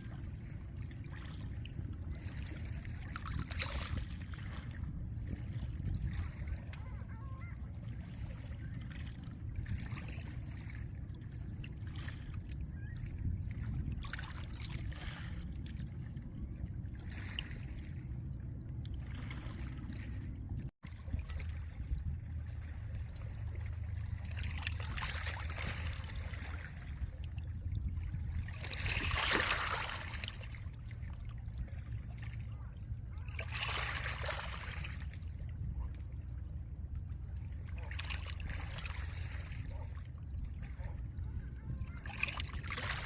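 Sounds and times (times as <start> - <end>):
low rumble of wind: 0.0 - 43.0.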